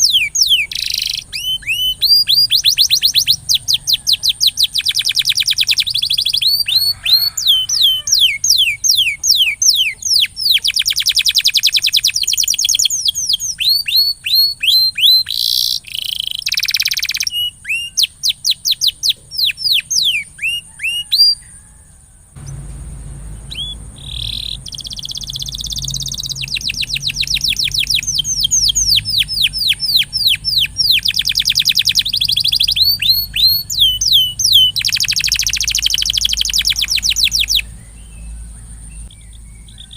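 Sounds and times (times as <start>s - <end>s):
canary singing trills: 0.0s - 21.8s, 22.4s - 39.9s.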